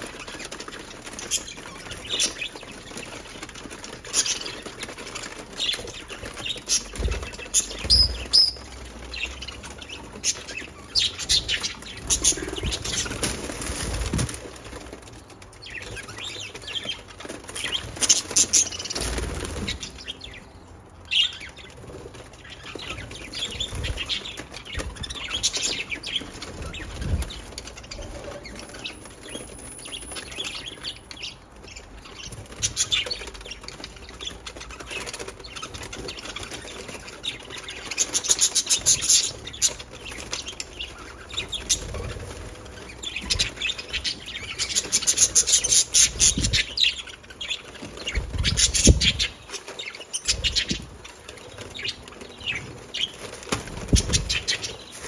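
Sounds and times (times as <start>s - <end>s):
budgerigars chirping and chattering: 0.0s - 14.9s, 15.5s - 55.0s
wings fluttering: 0.0s - 20.5s, 21.1s - 55.0s.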